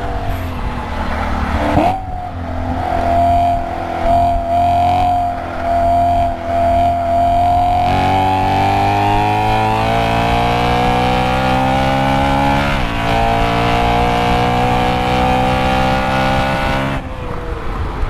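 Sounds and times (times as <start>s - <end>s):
engine revving at full throttle: 0.9s - 17.1s.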